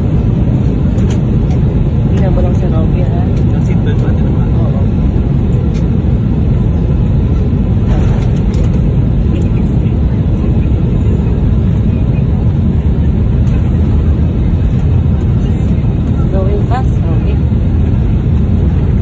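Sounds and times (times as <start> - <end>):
airliner engines rumbling in cabin: 0.0 - 19.0.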